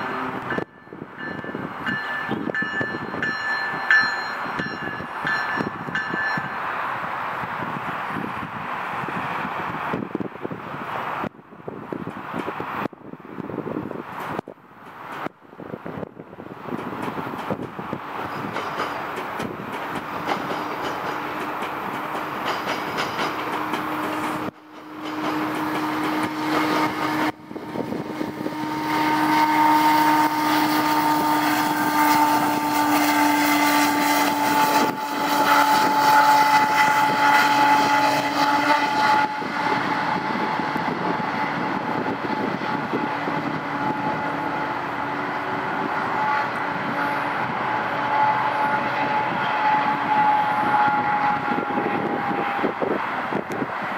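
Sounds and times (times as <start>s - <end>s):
diesel locomotive engine drone: 0.0s - 53.9s
train coaches rolling by: 0.0s - 53.9s.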